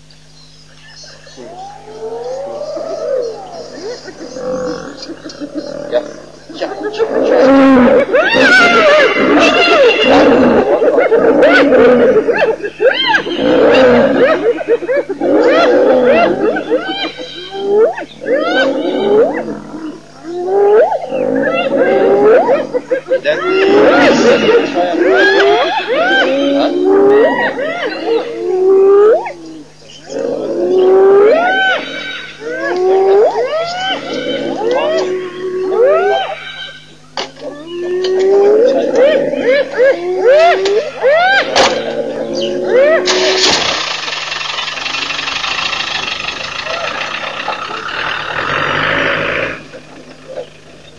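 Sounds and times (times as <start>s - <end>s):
hyenas whooping and yelping: 0.9s - 50.9s
growling: 1.4s - 36.4s, 37.3s - 50.8s.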